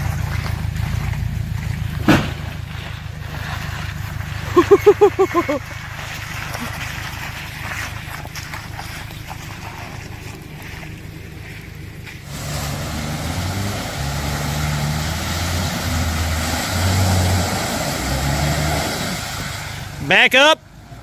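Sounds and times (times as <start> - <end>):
car engine revving: 0.0 - 21.0
tyres and wind rushing: 0.0 - 21.0.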